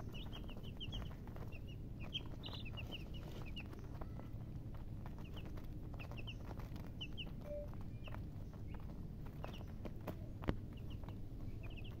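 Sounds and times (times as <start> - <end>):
baby chicks peeping: 0.0 - 12.0
steady low rumble: 0.0 - 12.0.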